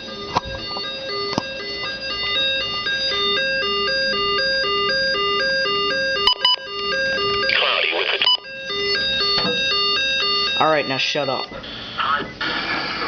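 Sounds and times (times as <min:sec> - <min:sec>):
electronic two-tone alert melody: 0:00.0 - 0:12.0.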